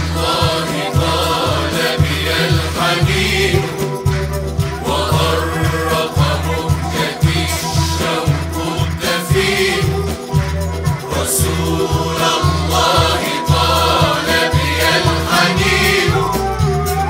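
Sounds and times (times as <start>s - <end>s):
band accompaniment with low beat: 0.0s - 17.0s
man and choir singing: 0.0s - 17.0s.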